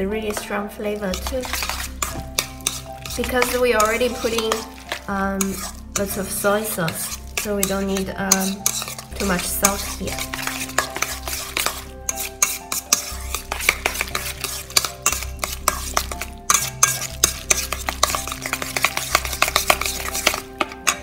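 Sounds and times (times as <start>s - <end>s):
chopsticks clacking on metal bowl: 1.2s - 6.1s, 7.3s - 21.0s.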